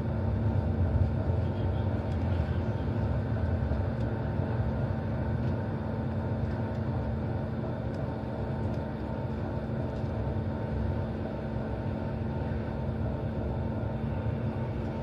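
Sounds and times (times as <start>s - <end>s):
droning hum: 0.0s - 15.0s.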